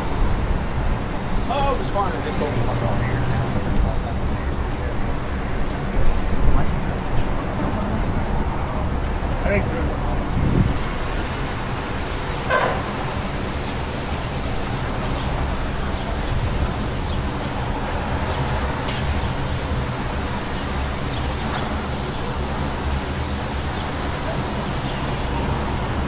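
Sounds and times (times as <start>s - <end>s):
general urban noise: 0.0s - 26.0s
traffic rumble: 0.0s - 26.0s.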